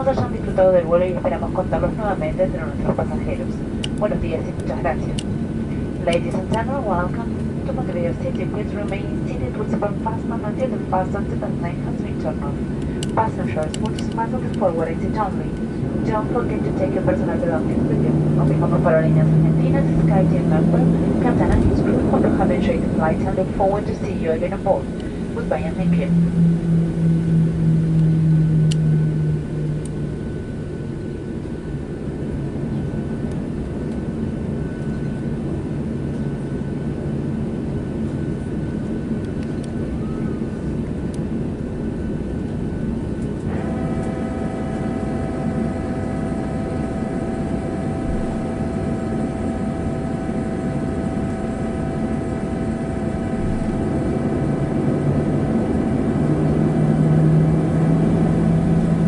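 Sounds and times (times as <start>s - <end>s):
aircraft cabin rushing drone: 0.0s - 59.0s
steady whining tones: 0.0s - 59.0s.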